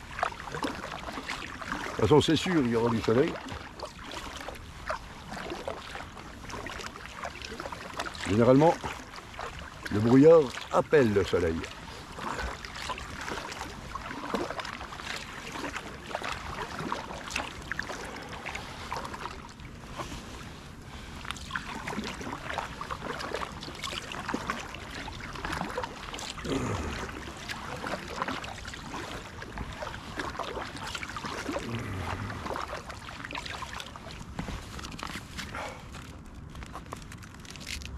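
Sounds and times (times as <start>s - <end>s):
kayak paddle dipping through water: 0.0s - 37.9s
small water splashes and drips: 0.0s - 37.9s.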